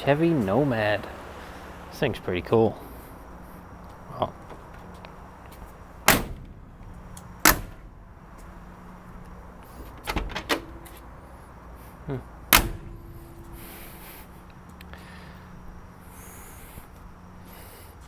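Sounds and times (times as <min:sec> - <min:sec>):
car doors clunking: 0:00.0 - 0:14.8
steady low hum: 0:00.0 - 0:18.0.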